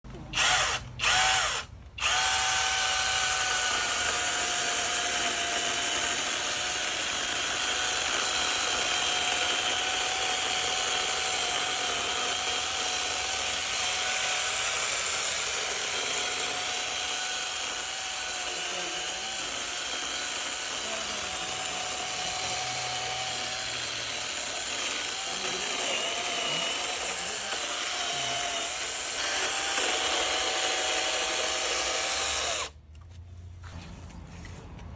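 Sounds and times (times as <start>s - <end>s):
electric chainsaw motor whine: 0.4s - 32.8s.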